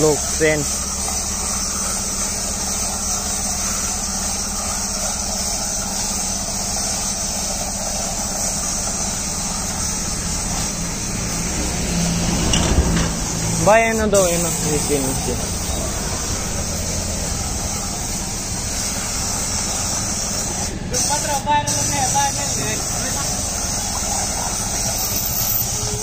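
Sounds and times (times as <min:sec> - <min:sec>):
machine humming and hissing: 0:00.0 - 0:26.0.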